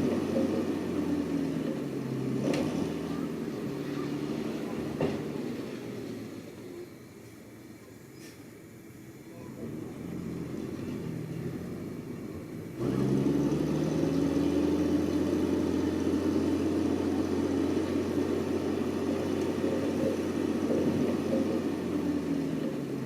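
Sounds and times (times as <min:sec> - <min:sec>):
diesel engine running: 0:00.0 - 0:07.7, 0:08.7 - 0:23.0.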